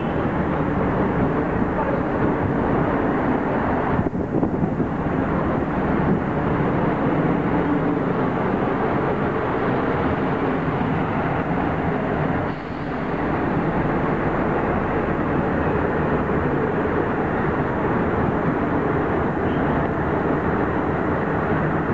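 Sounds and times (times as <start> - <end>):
diesel engines droning: 0.0 - 21.9.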